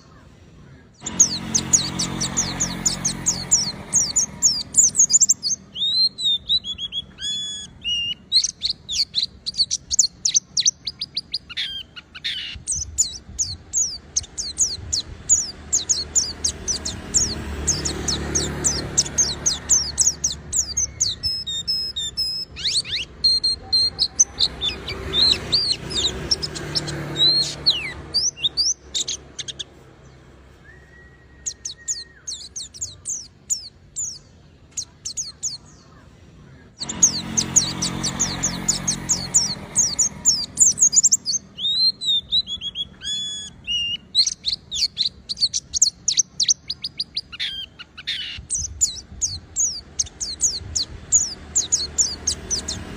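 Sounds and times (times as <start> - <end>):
bird singing high chirps and trills: 0.0 - 52.9.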